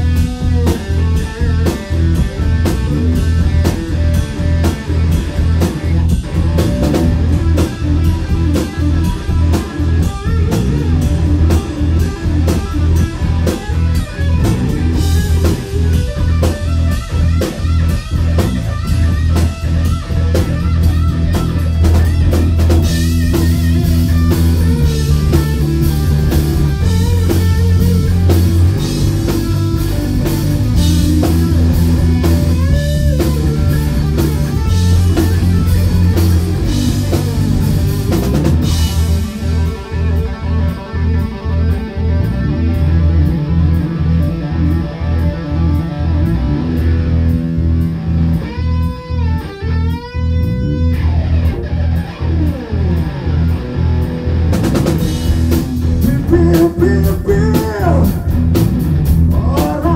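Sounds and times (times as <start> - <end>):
drum kit beat: 0.0 - 50.0, 54.2 - 59.9
electric guitar: 0.0 - 59.9.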